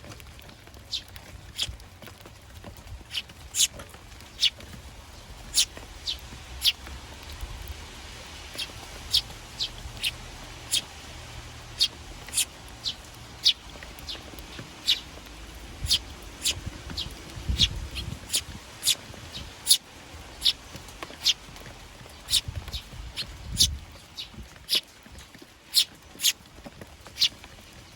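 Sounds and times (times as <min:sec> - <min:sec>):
sparrows chirping: 0:00.0 - 0:27.9.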